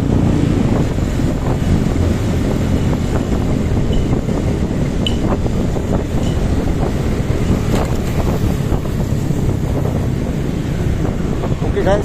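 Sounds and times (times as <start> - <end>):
motorcycle engine running: 0.0 - 11.5
wind buffeting microphone: 0.0 - 12.0.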